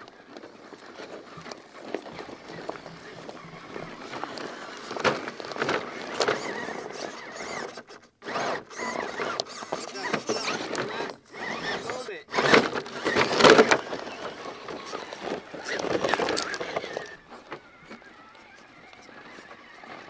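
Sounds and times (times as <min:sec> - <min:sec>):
toy truck electric motors whining: 0:00.0 - 0:20.0.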